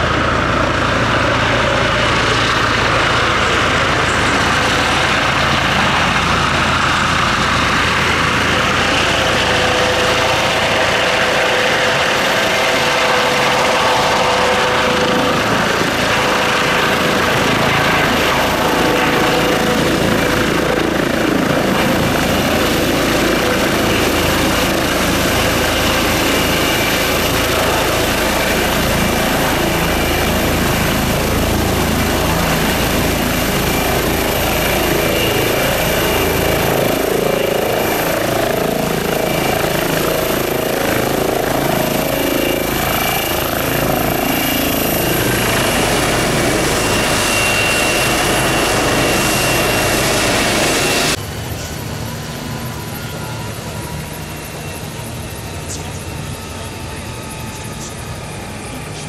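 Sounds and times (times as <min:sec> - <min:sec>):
helicopter rotor beat: 0:00.0 - 0:59.0
helicopter turbine whine: 0:00.0 - 0:59.0.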